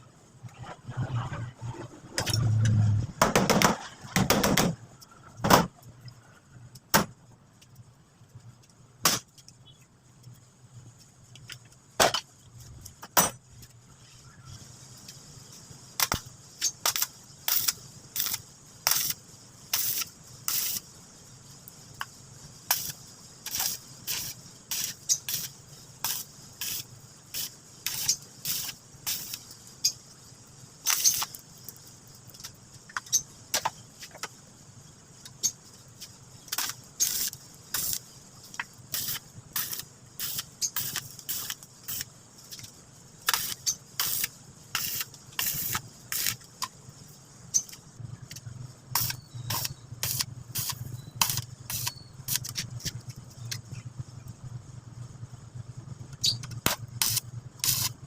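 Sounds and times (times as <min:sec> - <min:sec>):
faint steady high hiss: 0:00.0 - 0:58.0.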